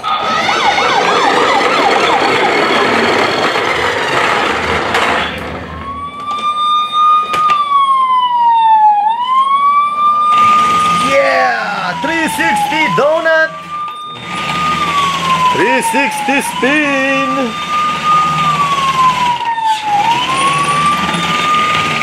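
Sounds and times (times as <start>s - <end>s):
toy electronic siren: 0.0s - 22.0s.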